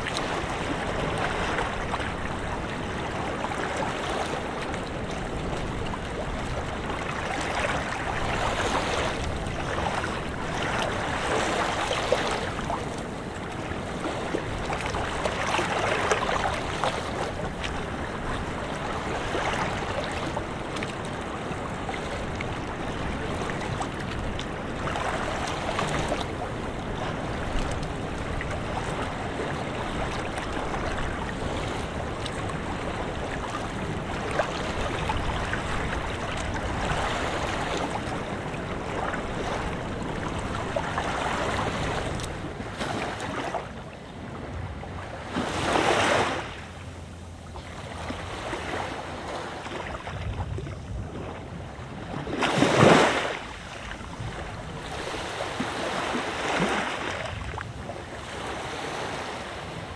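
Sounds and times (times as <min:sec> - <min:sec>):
wind on microphone: 0:00.0 - 0:45.6, 0:49.9 - 0:59.9
waves breaking on beach: 0:00.0 - 0:59.9.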